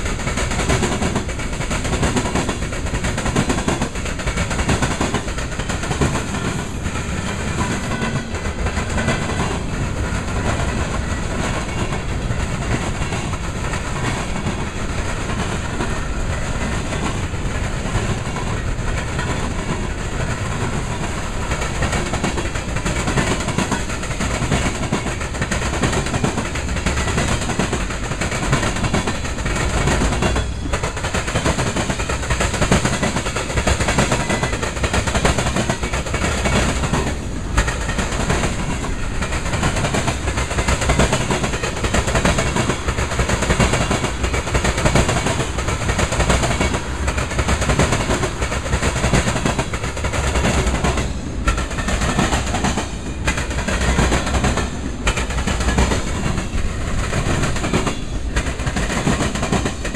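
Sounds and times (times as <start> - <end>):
freight train rumbling past: 0.0 - 59.9
wheels clickety-clack on rail joints: 0.0 - 59.9.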